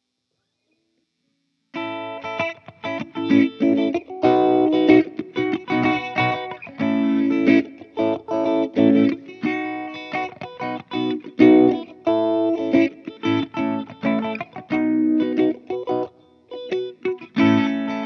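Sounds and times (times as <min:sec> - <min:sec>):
electric guitar with phaser: 0:01.8 - 0:18.0.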